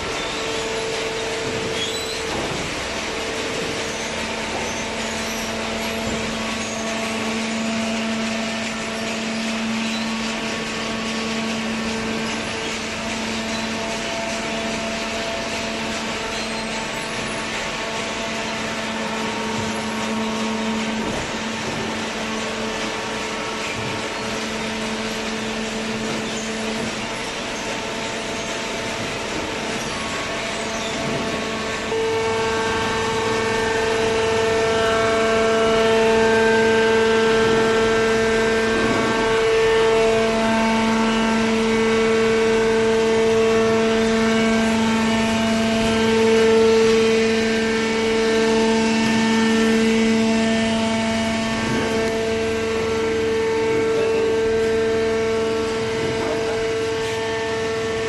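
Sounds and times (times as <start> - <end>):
baler machine hum and whine: 0.0 - 58.0.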